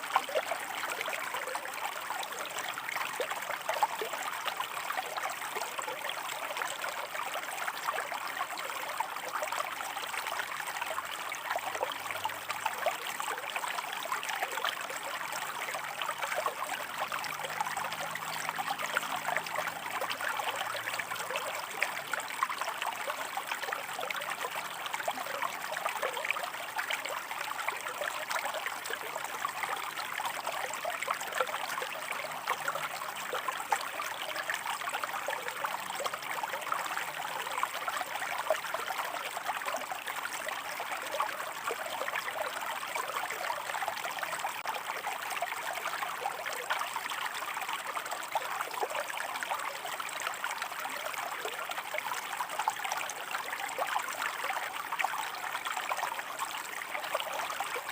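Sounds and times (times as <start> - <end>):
stream water over rocks: 0.0 - 57.9.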